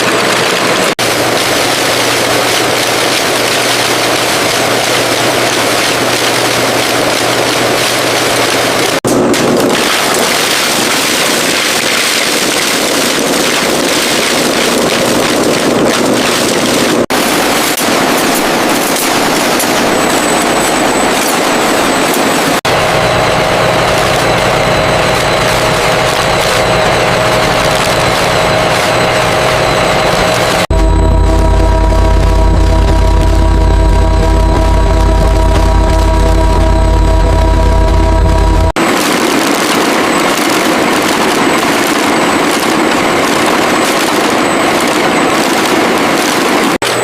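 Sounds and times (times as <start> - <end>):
factory machinery running: 0.0 - 47.0.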